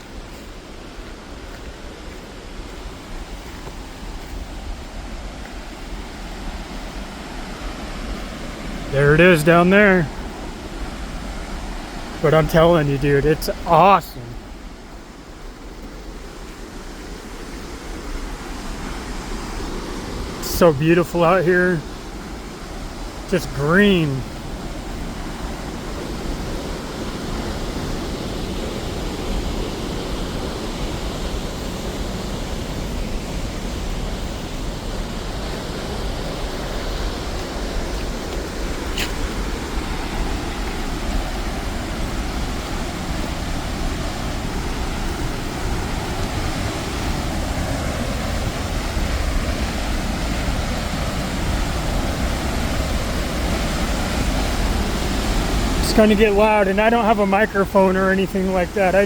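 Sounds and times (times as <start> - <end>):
waterfall rushing: 0.9 - 59.0.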